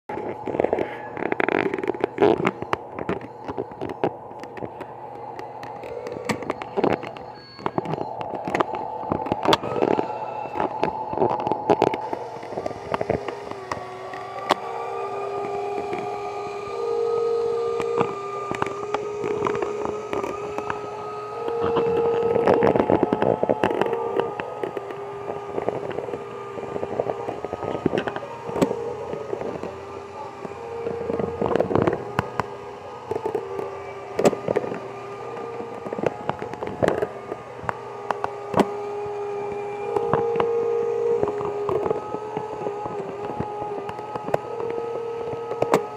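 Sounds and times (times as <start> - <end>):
model truck motor whine: 0.0 - 45.9.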